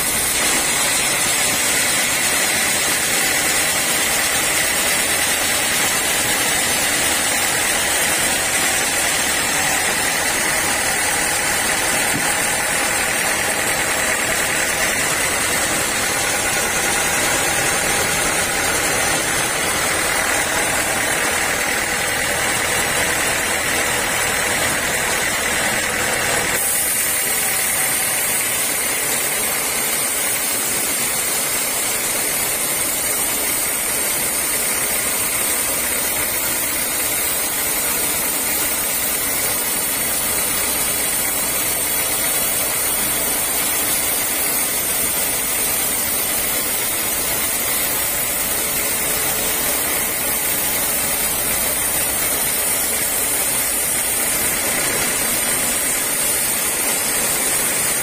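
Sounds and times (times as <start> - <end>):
saw blade cutting through log: 0.0 - 58.0
saw drive humming: 0.0 - 58.0.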